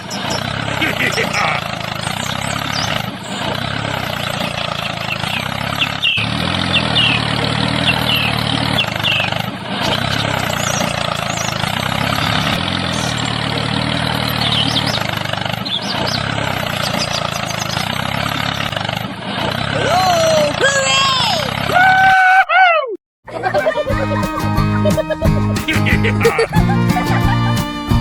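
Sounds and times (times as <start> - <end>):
small engine droning: 0.0 - 21.8, 23.3 - 28.0.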